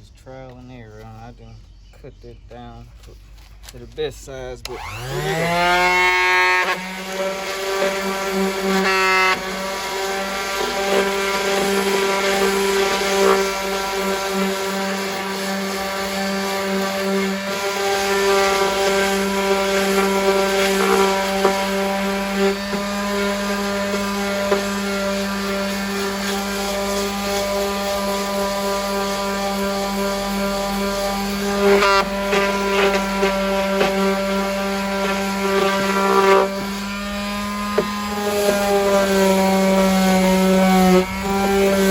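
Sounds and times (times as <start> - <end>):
electric sander motor whining: 4.6 - 41.9.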